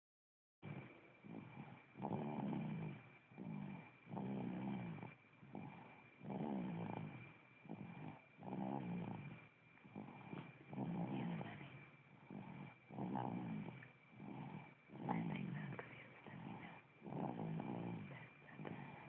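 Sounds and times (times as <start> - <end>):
loud rattling snoring: 0.6 - 19.0.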